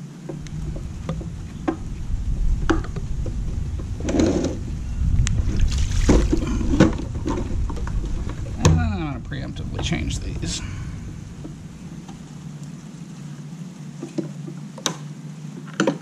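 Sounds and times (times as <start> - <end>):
low steady rumble: 0.0 - 15.7.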